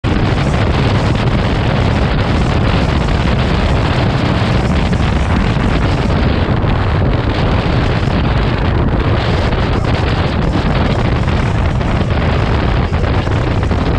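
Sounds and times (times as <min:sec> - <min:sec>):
motorcycle running: 0:00.0 - 0:13.9
wind rushing over microphone: 0:00.0 - 0:13.9.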